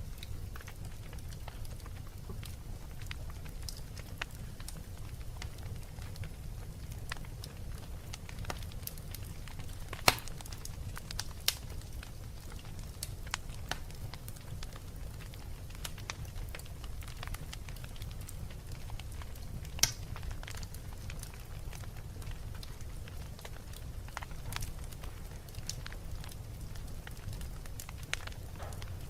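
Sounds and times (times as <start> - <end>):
wood fire crackling: 0.0 - 29.0
sharp pops from fire: 0.2 - 29.0.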